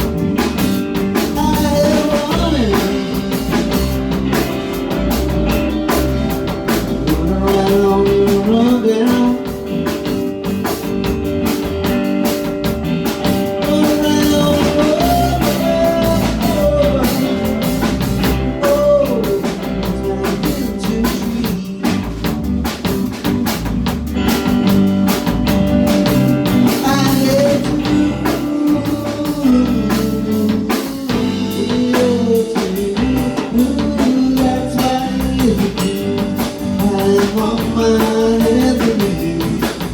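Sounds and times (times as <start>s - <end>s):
person singing: 0.0s - 10.1s, 13.4s - 22.3s, 25.4s - 39.9s
drum kit: 0.0s - 39.9s
guitar: 0.0s - 39.9s.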